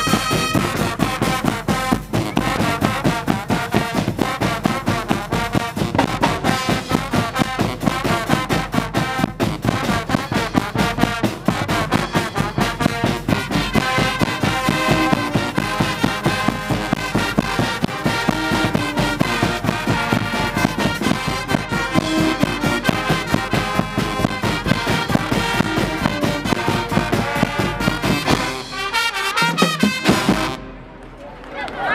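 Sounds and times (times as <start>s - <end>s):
steady drum beat: 0.0s - 30.7s
brass instruments playing: 0.0s - 31.0s.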